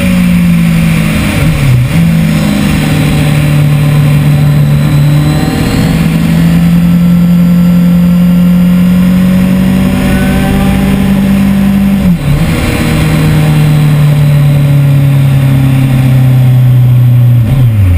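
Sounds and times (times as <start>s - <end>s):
motorcycle engine at track speed: 0.0s - 17.9s.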